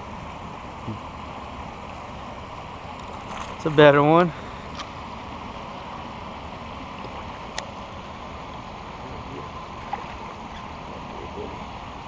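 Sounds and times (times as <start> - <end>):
running water: 0.0 - 12.0
wind: 0.0 - 12.0.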